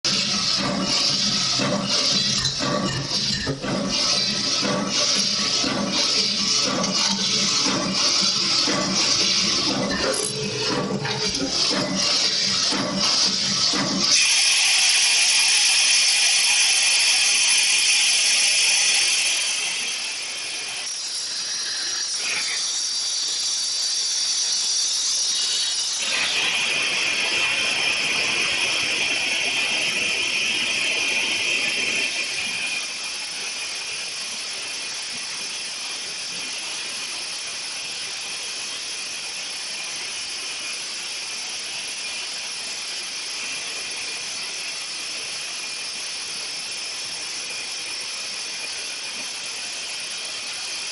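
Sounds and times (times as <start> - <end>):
machine high whine: 0.0 - 50.9
press machinery hissing: 0.0 - 50.9.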